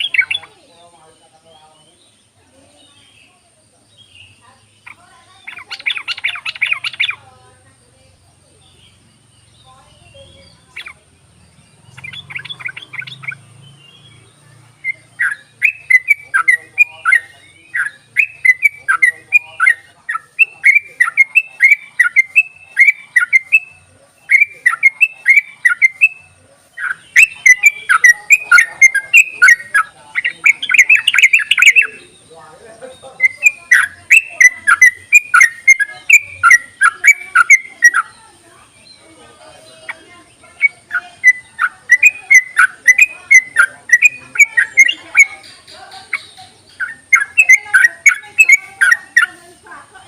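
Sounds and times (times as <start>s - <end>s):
bulbul singing chattering song: 0.0s - 50.0s.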